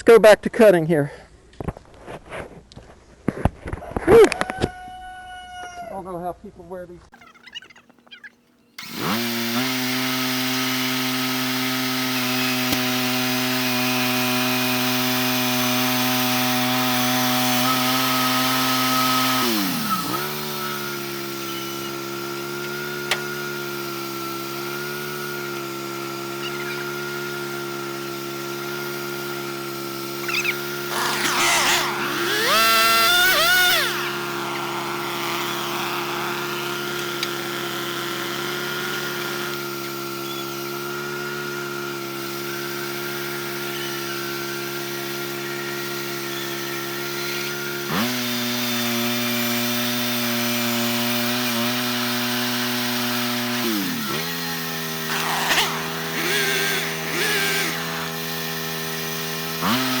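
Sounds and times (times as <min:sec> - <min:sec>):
rising saw whines: 0:07.2 - 1:00.0
sawmill cutting wood: 0:07.2 - 1:00.0.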